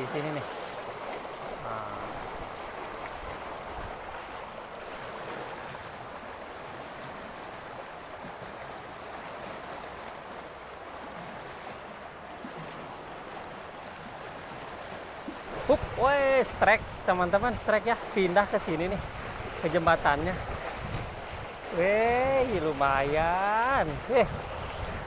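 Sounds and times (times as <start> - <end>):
river current rushing: 0.0 - 25.0.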